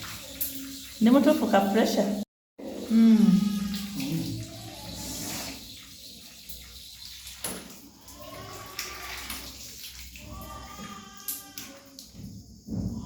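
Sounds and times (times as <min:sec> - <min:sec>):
water running from plumbing: 0:00.0 - 0:13.0.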